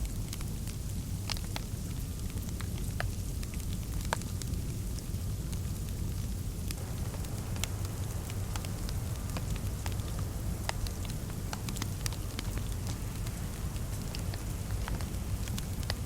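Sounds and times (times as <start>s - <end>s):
fire crackling with pops and snaps: 0.0s - 16.0s
low fire rumble: 0.0s - 16.0s.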